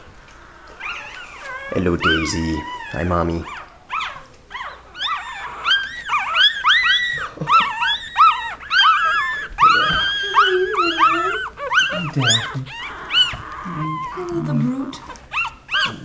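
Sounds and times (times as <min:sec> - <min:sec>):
puppies squeaking and whimpering: 0:00.0 - 0:16.0.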